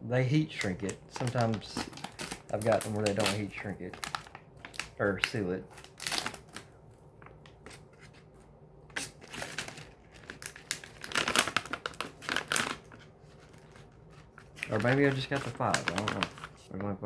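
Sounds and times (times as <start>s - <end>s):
plastic wrapping crinkling and tearing: 0.5s - 16.9s.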